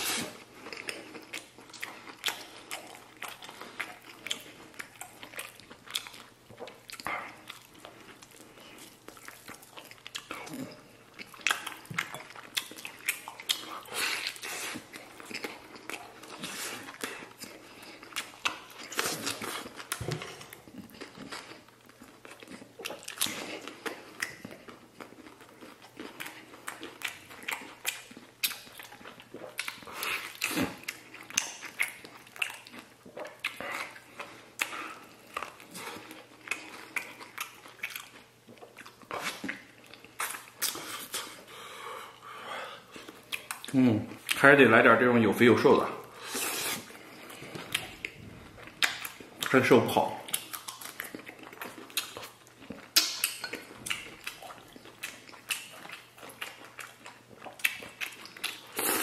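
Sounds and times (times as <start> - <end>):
person chewing meat: 0.0 - 44.6, 45.6 - 59.0.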